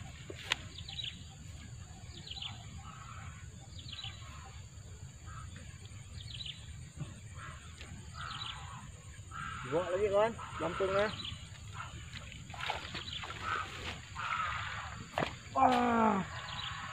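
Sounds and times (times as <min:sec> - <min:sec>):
bird chirping: 0:00.0 - 0:14.4, 0:16.0 - 0:16.9.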